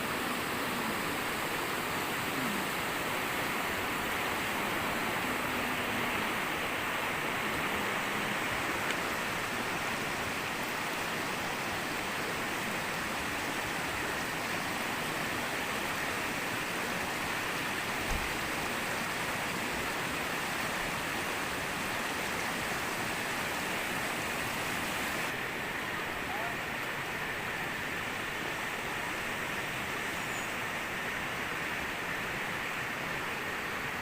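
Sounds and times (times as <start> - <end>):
rushing water hiss: 0.0 - 34.0.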